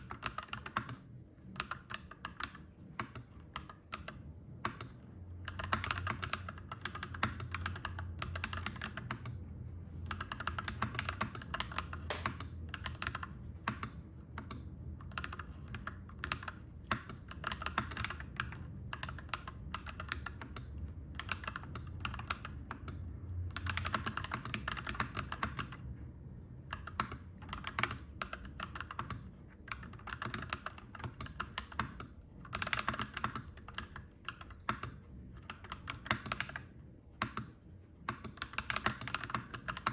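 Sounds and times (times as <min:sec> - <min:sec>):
mechanical keyboard typing: 0:00.0 - 0:09.4, 0:10.0 - 0:25.9, 0:26.6 - 0:39.9.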